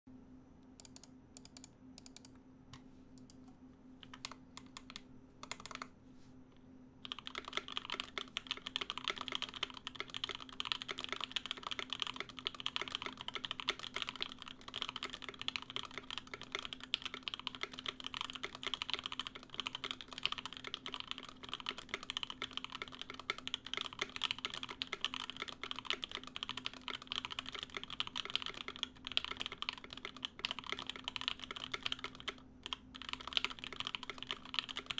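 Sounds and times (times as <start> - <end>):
mechanical keyboard typing: 0.8 - 2.3, 4.0 - 5.9, 7.0 - 34.9.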